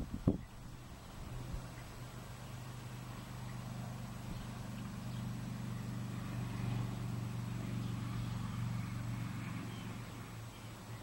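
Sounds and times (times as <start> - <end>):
motor engine droning: 0.0 - 11.0.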